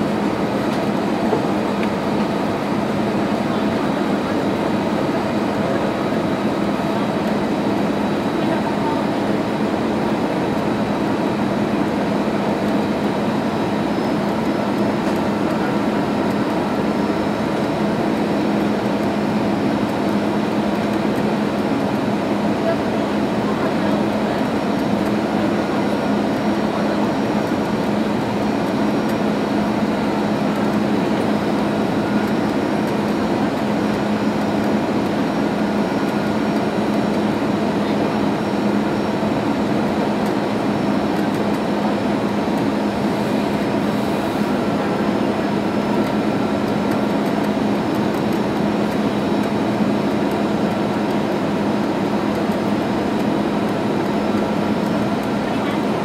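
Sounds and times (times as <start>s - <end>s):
jet engine and airflow noise: 0.0s - 56.0s.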